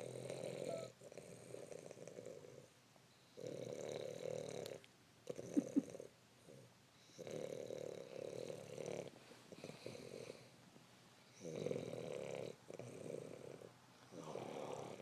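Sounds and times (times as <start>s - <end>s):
dog snoring: 0.0s - 2.7s, 3.3s - 10.5s, 11.3s - 15.0s.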